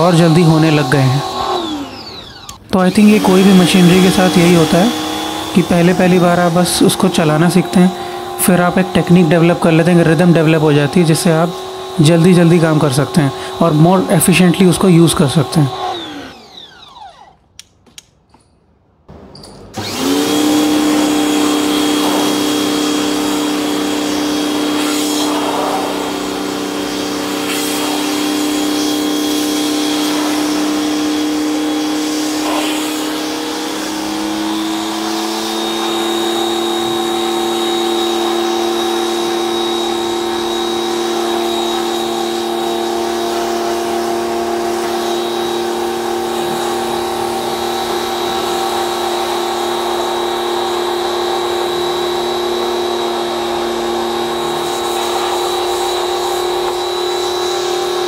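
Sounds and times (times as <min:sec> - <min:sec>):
pressure washer motor whine: 0:00.0 - 0:17.6, 0:19.1 - 0:58.0.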